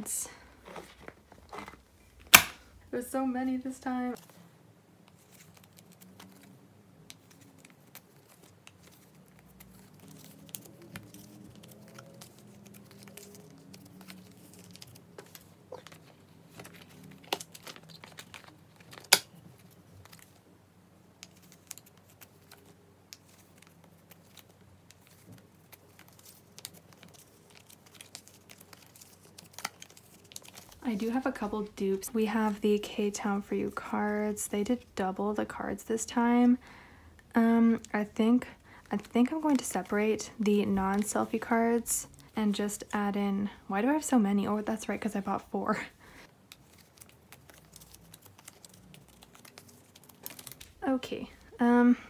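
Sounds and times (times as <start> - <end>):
plastic sleeves crinkling: 0.2 - 2.8, 5.0 - 36.6, 37.2 - 52.0.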